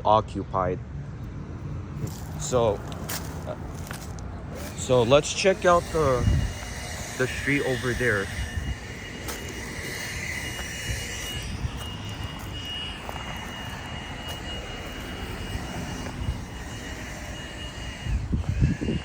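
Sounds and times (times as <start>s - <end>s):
low urban rumble: 0.0s - 19.0s
thin high steady tone: 3.4s - 19.0s.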